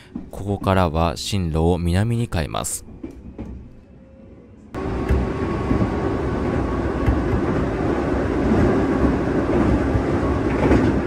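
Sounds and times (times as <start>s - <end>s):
train wheels rumbling on rail: 0.0s - 3.8s, 4.8s - 11.0s.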